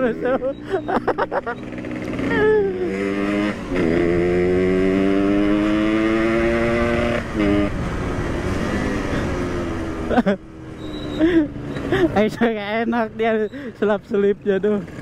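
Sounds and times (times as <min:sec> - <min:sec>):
motorcycle engine accelerating: 0:00.0 - 0:12.2.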